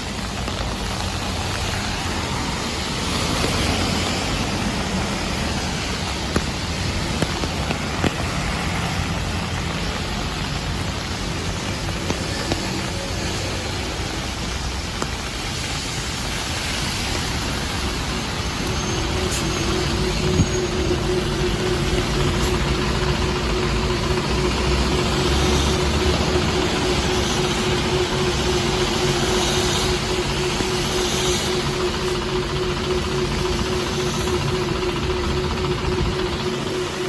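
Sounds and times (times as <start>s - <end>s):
bus engine idling: 0.0s - 37.0s
heavy rain hissing on street: 0.0s - 37.0s
traffic on wet road: 0.0s - 37.0s.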